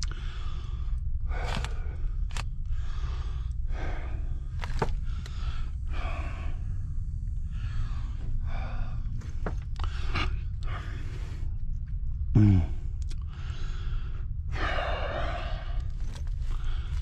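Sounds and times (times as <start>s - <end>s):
man breathing heavily: 0.0s - 17.0s.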